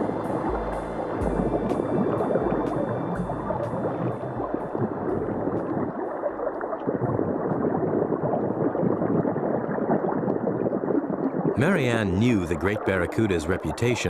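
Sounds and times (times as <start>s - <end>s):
water bubbling and gurgling: 0.0s - 14.0s.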